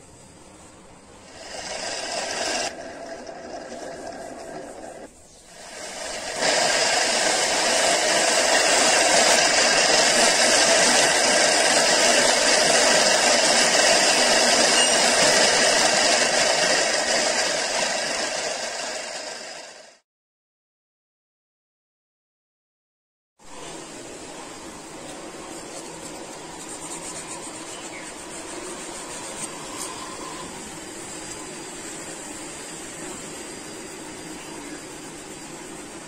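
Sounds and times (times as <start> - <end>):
polishing wheel grinding hiss: 0.0 - 20.0, 23.5 - 36.0.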